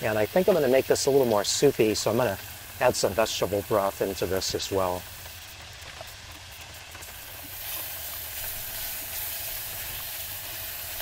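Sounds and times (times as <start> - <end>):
ground beef sizzling: 0.0 - 11.0.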